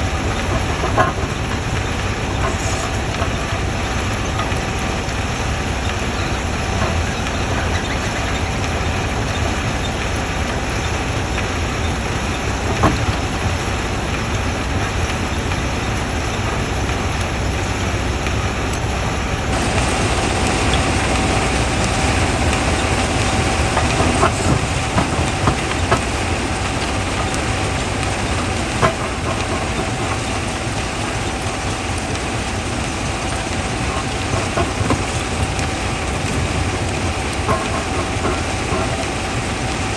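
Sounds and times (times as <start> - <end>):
rock crusher rumbling: 0.0 - 39.9.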